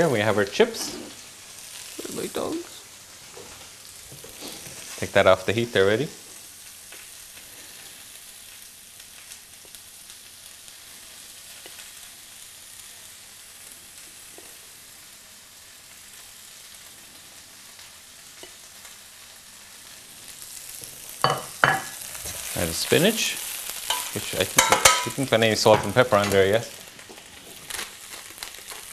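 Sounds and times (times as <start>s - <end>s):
spinach sizzling in frying pan: 0.0s - 28.9s.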